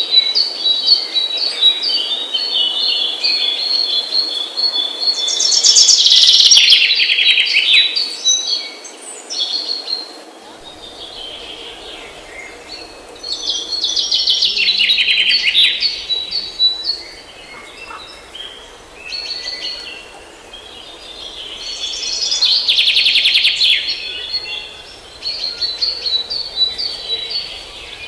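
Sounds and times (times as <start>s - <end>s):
small birds chirping in trills: 0.4s - 28.0s.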